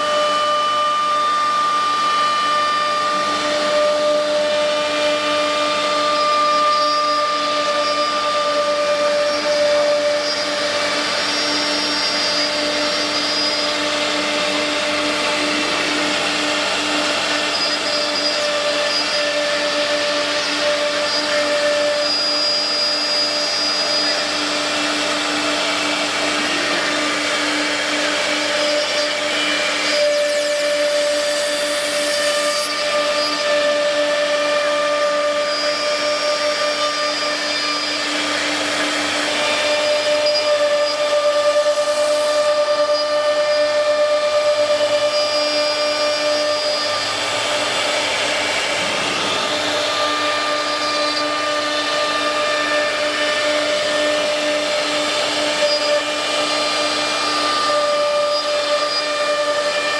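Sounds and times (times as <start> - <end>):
machine hum and whine: 0.0 - 59.9.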